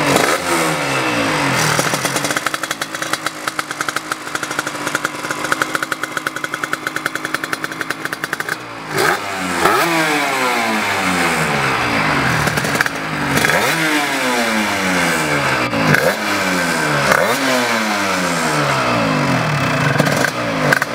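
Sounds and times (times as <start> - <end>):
two-stroke racing engine revving: 0.0 - 20.9.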